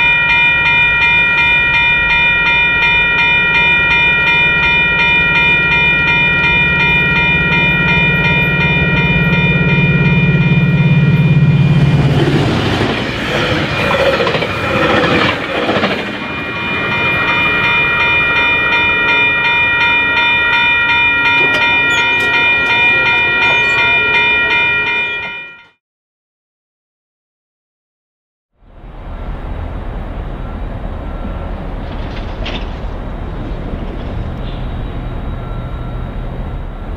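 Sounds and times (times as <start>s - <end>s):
diesel train engine drone: 0.0s - 25.7s, 28.6s - 36.9s
rushing train noise: 0.0s - 25.7s, 28.6s - 36.9s
railroad crossing bells ringing: 0.0s - 25.8s, 29.0s - 36.9s.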